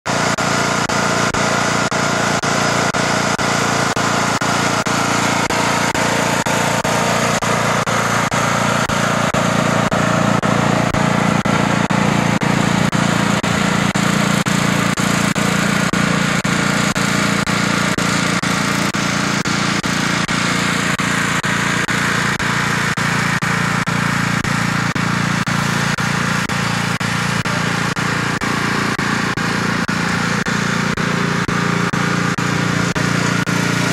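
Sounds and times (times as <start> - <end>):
riding lawnmower engine running: 0.0 - 33.9.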